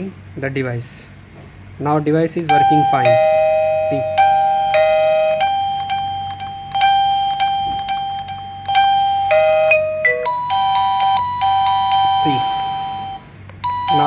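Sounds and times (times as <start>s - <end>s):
doorbell electronic chime tune: 2.5s - 14.0s.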